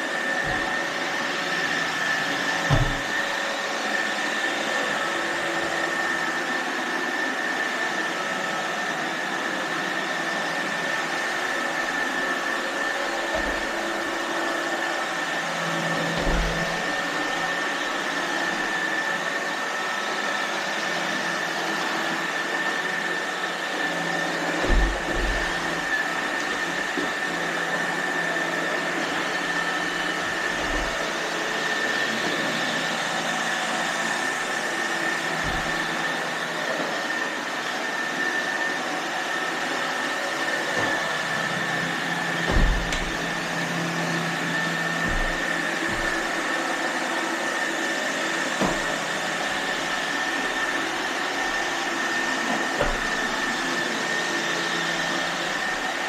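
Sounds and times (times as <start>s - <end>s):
robot vacuums whirring: 0.0s - 56.0s.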